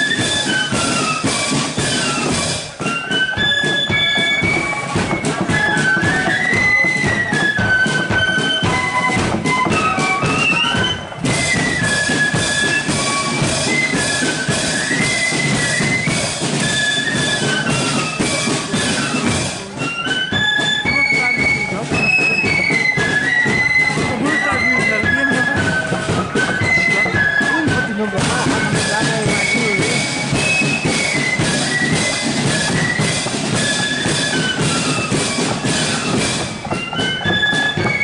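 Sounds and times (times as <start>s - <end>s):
flute melody: 0.0s - 38.0s
steady drum beat: 0.0s - 38.0s.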